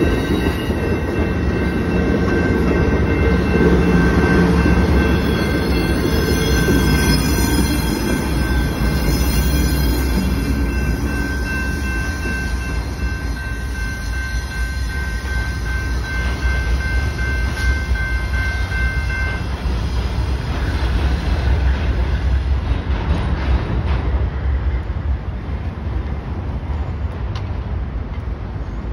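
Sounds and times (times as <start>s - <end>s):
train wheel squeal: 0.0s - 23.5s
train rumbling on rails: 0.0s - 28.9s.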